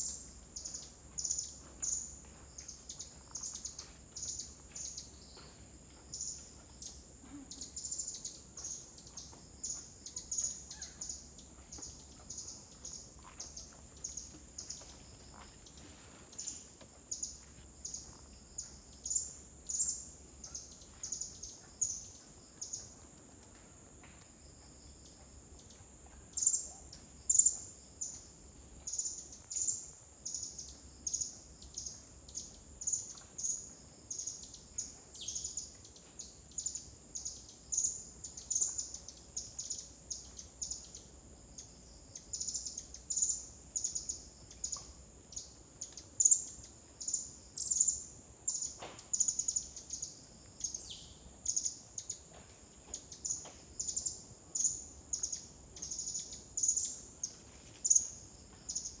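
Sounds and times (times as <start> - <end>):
high-pitched insect hum: 0.0 - 59.0.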